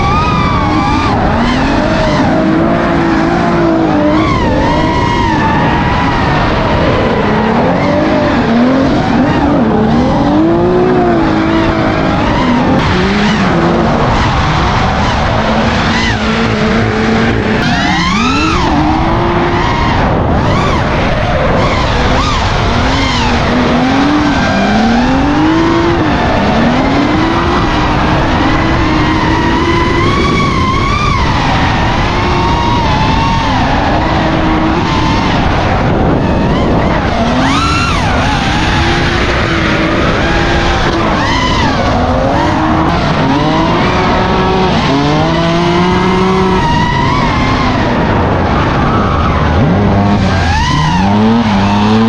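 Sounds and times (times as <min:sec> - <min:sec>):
car engines revving hard: 0:00.0 - 0:52.0.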